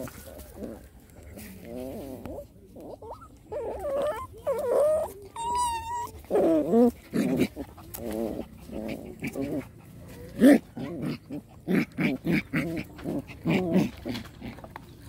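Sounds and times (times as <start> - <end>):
puppies growling and whining: 0.0 - 15.0.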